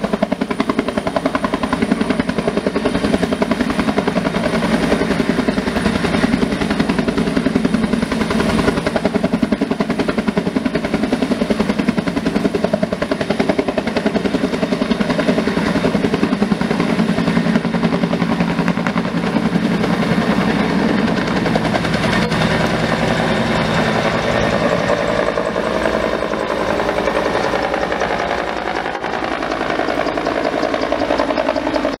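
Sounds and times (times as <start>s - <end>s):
helicopter engine drone: 0.0s - 32.0s
helicopter rotor beating: 0.0s - 32.0s.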